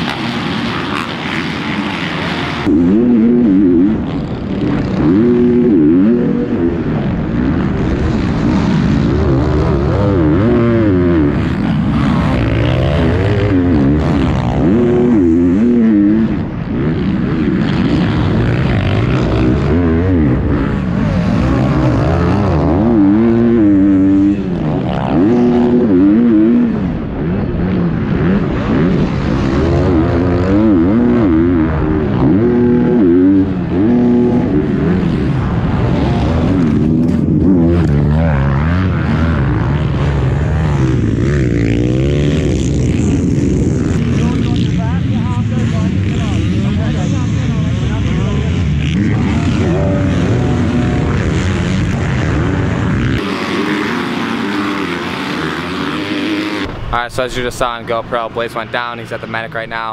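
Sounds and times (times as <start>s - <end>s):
dirt bike engine revving: 0.0s - 59.9s
other dirt bikes racing: 0.0s - 59.9s.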